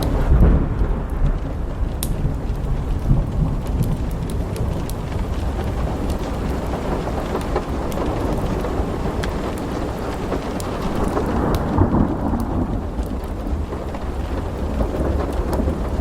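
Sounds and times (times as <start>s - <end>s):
sharp crackles: 0.0s - 16.0s
steady rain: 0.0s - 16.0s
thunder rumble: 0.0s - 16.0s.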